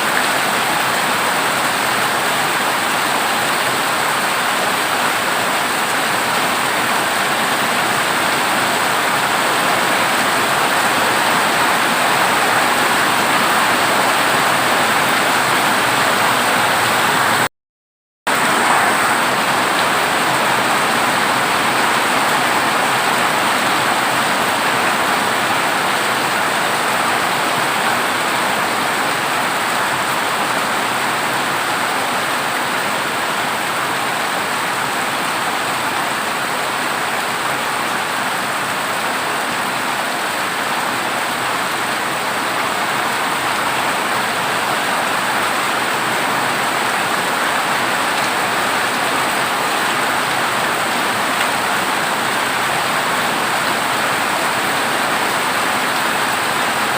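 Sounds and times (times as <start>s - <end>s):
heavy rain on a tin roof: 0.0s - 17.5s, 18.3s - 56.9s.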